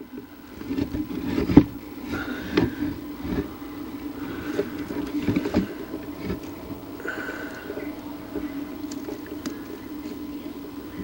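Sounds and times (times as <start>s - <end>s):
rustling of sticks: 0.0s - 11.0s
steady low hum: 0.0s - 11.0s.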